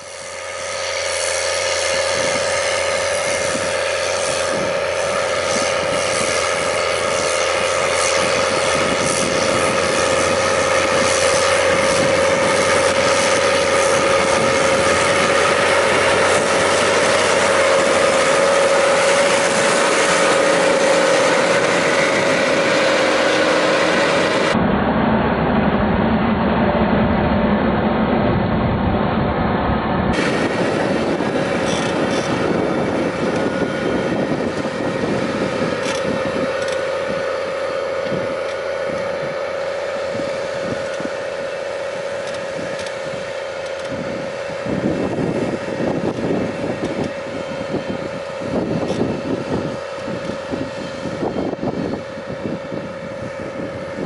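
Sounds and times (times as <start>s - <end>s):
high whine: 0.0s - 54.0s
tractor diesel engine under load: 0.0s - 54.0s.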